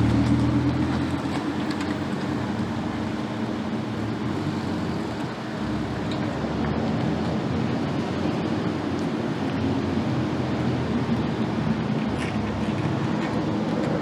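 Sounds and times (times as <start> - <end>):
car engine hum: 0.0 - 14.0
tyre and road noise: 0.0 - 14.0.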